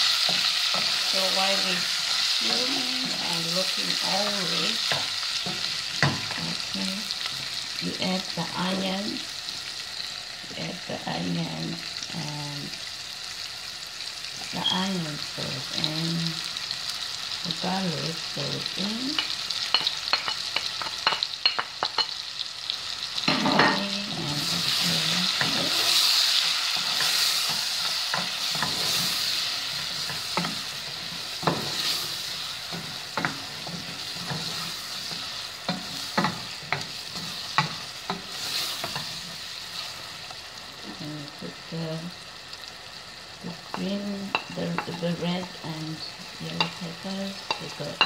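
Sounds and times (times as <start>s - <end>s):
meatballs sizzling in a pot: 0.0s - 48.0s.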